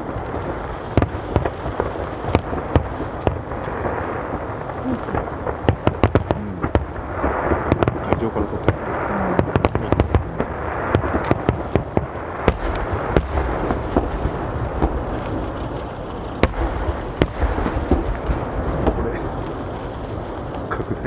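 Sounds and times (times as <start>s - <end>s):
fireworks bangs and cracks: 0.0s - 21.0s
low rumble of bursting shells: 0.0s - 21.0s.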